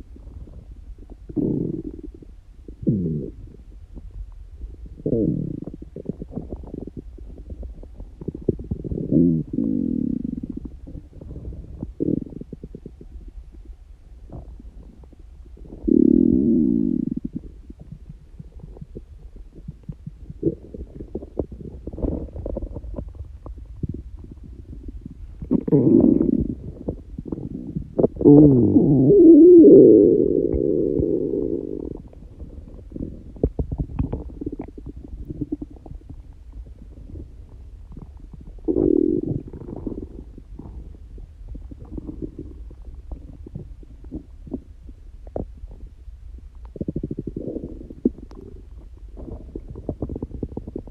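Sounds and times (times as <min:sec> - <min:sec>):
stomach growling and gurgling: 0:00.0 - 0:50.9.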